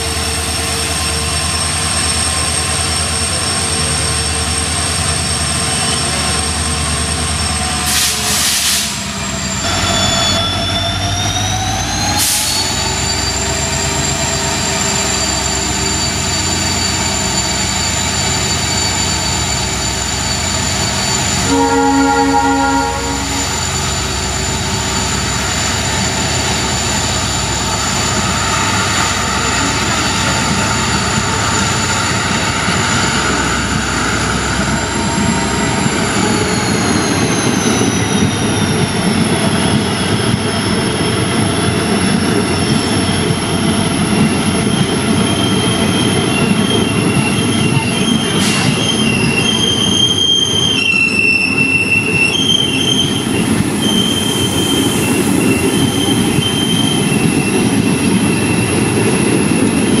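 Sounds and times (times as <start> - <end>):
train wheels rumbling on rail: 0.0 - 60.0
wheel squeal: 9.5 - 60.0.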